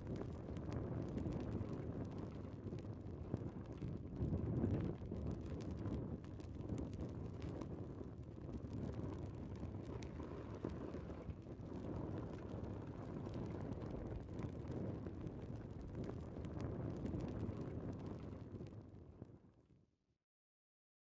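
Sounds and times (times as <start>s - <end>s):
faint clicks and crackles: 0.0s - 19.4s.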